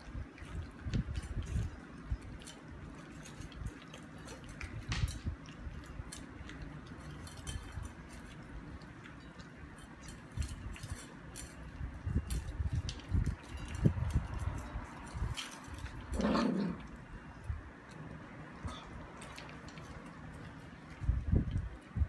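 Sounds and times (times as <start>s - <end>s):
dog crunching and chewing: 0.0s - 22.0s.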